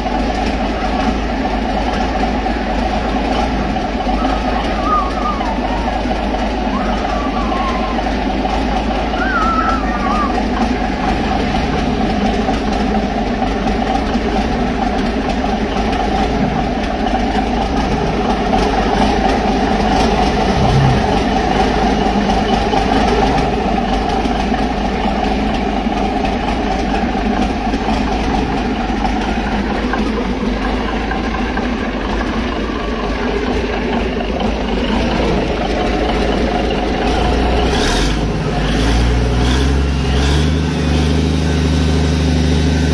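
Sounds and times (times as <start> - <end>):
diesel engine running steadily: 0.0 - 42.9.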